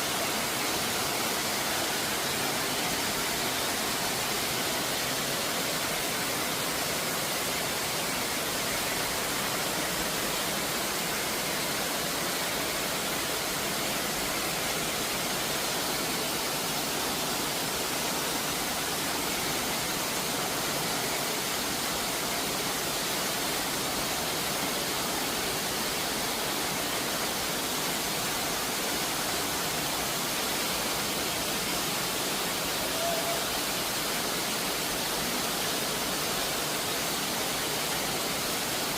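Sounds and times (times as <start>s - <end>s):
stream water flowing over rocks: 0.0s - 38.9s.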